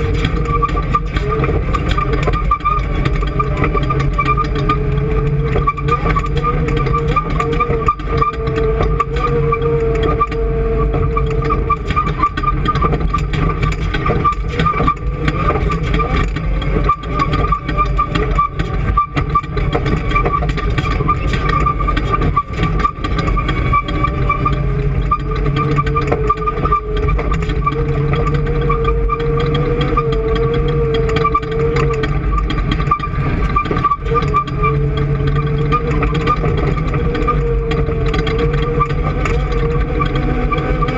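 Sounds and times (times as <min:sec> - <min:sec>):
engine droning with whine: 0:00.0 - 0:40.9.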